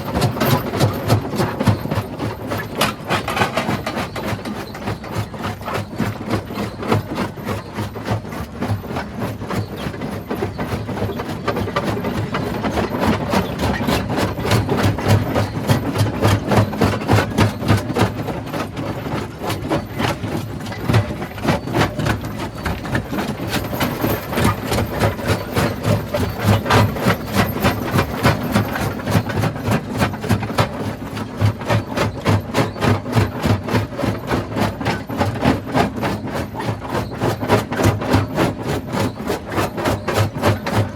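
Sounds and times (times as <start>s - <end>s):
rock crusher pounding: 0.0s - 40.9s.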